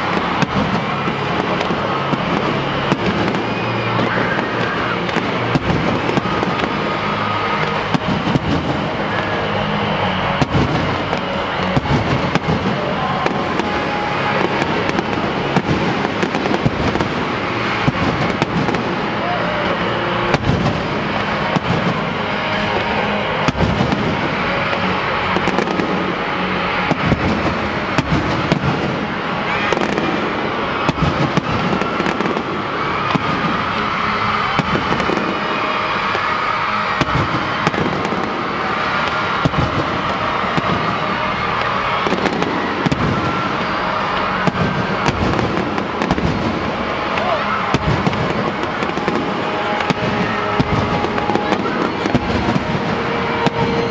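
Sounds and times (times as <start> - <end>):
fireworks banging: 0.0 - 53.9
music playing: 0.0 - 53.9.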